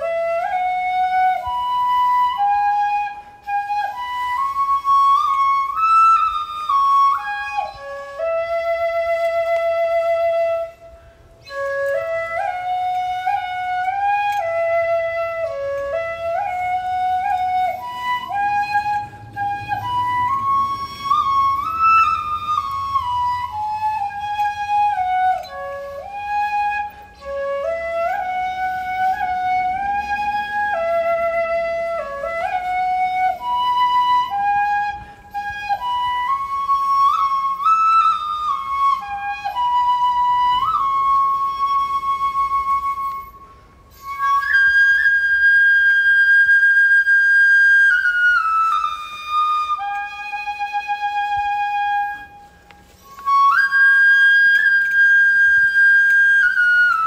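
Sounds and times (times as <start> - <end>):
bamboo flute melody: 0.0 - 57.0.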